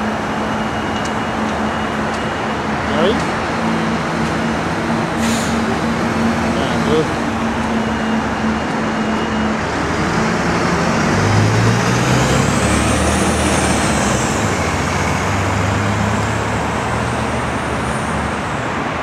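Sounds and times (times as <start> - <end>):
bus engine passing: 0.0 - 19.0
street traffic: 0.0 - 19.0.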